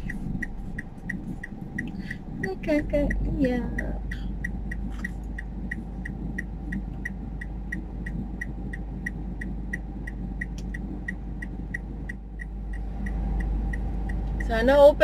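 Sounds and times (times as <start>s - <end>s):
car engine idling: 0.0s - 15.0s
turn signal clicking: 0.0s - 15.0s.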